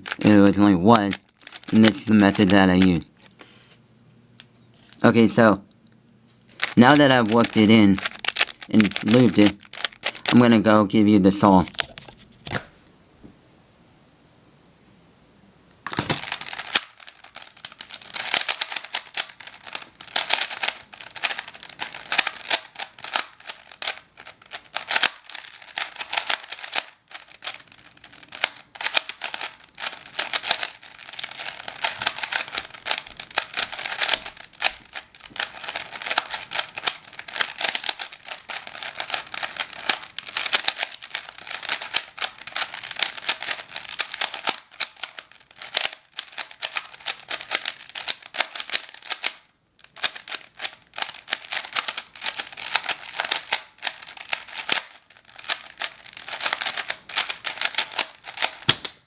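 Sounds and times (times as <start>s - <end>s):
puzzle cube plastic clicks: 0.0s - 3.1s, 6.4s - 10.5s, 15.9s - 59.0s.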